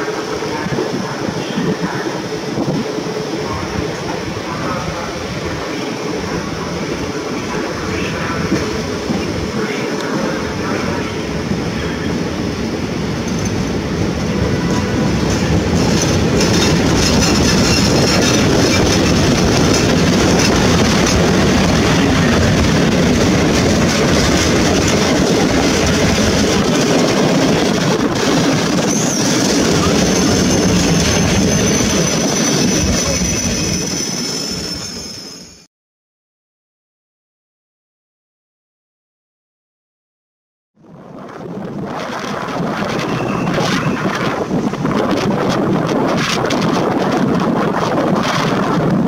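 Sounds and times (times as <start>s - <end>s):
passenger train passing: 0.0s - 35.7s, 41.0s - 49.0s
wheels rumbling on rails: 0.0s - 35.7s, 40.8s - 49.0s.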